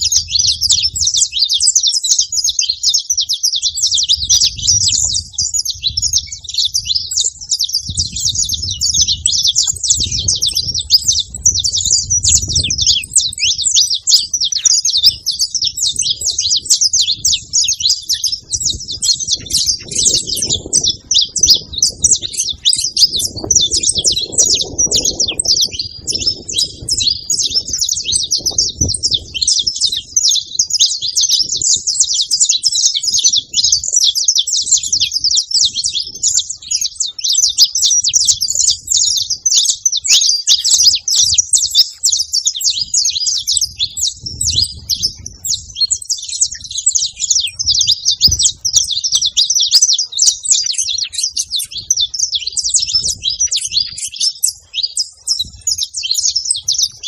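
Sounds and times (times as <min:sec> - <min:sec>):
flock of finches chirping: 0:00.0 - 0:57.0.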